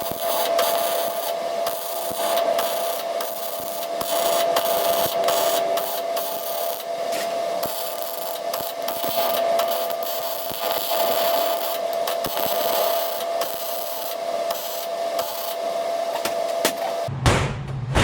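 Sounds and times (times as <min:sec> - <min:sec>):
welding arc crackling and popping: 0:00.0 - 0:17.1.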